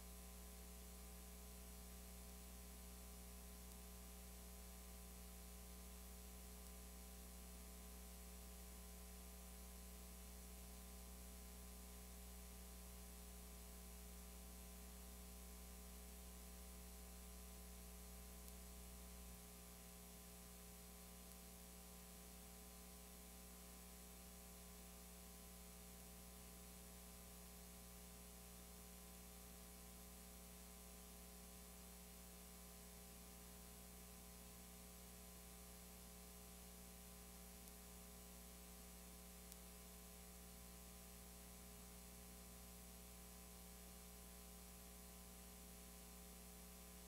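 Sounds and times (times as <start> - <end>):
faint electrical hum with hiss: 0.0 - 47.0.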